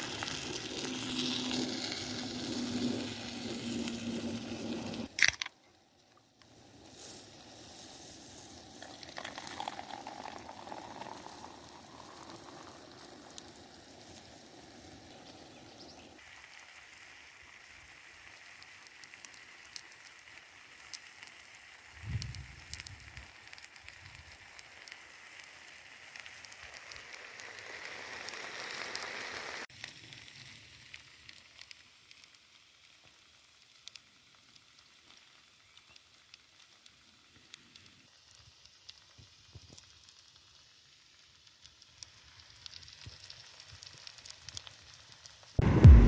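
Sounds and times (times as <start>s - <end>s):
food sizzling over fire: 0.0s - 46.0s
small fire crackles: 0.0s - 46.0s.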